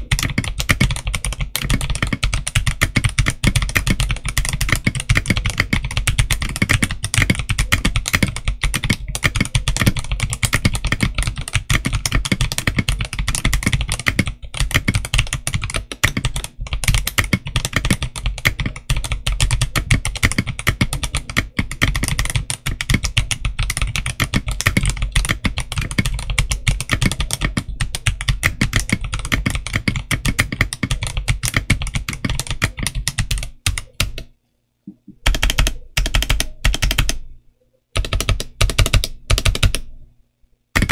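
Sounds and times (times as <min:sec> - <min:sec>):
mechanical keyboard typing: 0:00.0 - 0:34.3, 0:35.2 - 0:37.2, 0:38.0 - 0:39.9.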